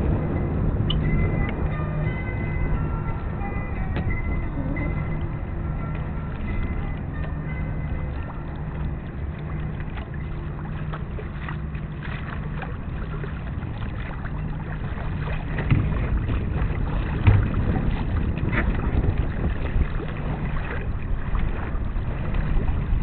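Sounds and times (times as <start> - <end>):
low thumps: 0.0 - 22.9
water noise: 0.0 - 23.0
wind buffeting microphone: 0.0 - 23.0.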